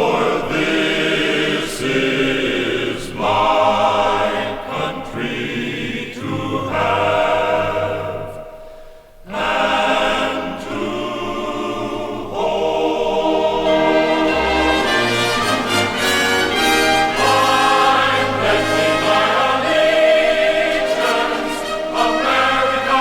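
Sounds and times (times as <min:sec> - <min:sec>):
choir singing: 0:00.0 - 0:08.6, 0:09.2 - 0:23.0.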